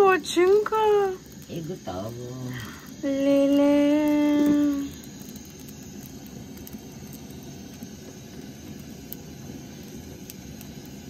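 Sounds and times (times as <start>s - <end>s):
gas burner flame rushing: 0.0s - 11.0s
pastry frying ticks: 0.0s - 11.0s.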